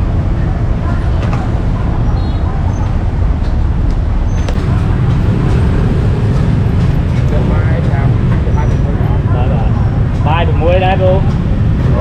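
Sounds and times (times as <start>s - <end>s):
faint voices: 0.0s - 3.8s, 4.4s - 12.0s
street noise rumble: 0.0s - 12.0s.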